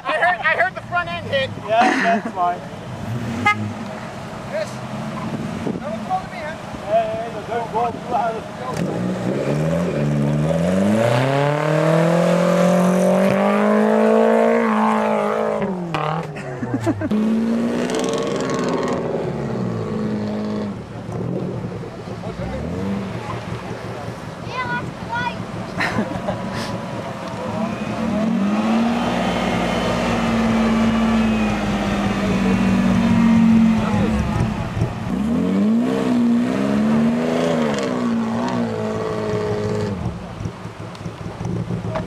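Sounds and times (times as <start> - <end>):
engine revving: 2.9 - 16.4, 17.0 - 42.0.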